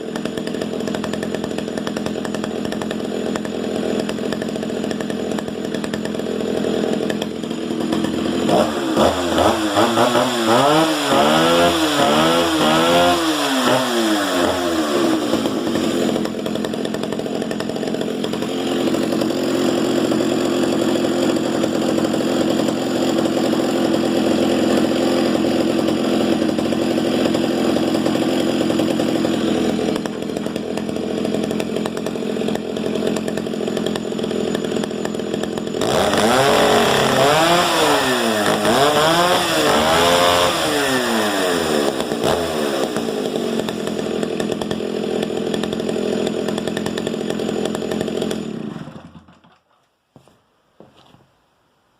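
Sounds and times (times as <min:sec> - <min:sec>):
chainsaw engine revving and idling: 0:00.0 - 0:49.6.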